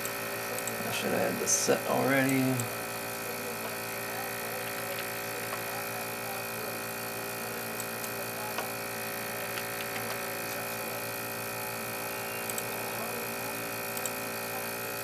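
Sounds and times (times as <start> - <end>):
heaters and cooling fans whirring: 0.0 - 15.0.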